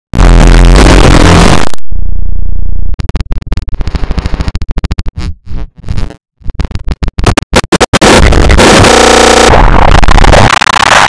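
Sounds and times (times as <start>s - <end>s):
bursts of distorted noise: 0.1s - 11.0s
glitched cartoon soundtrack: 0.2s - 1.7s, 2.9s - 11.0s.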